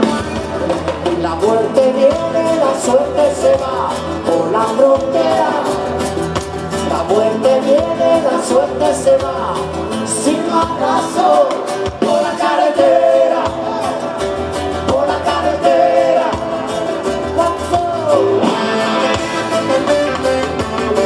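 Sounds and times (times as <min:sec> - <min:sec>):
bass: 0:00.0 - 0:21.0
lead vocal singing: 0:00.0 - 0:21.0
live band music over pa: 0:00.0 - 0:21.0
steady drum beat: 0:00.0 - 0:21.0.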